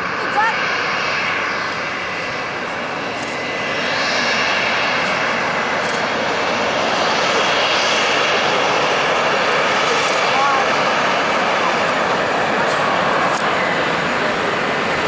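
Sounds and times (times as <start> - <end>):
jet engines taxiing: 0.0 - 15.0.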